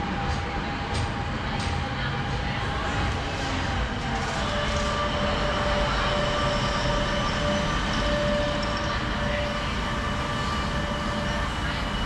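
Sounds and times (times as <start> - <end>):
thin steady whine: 0.0 - 12.0
train rumbling: 0.0 - 12.0.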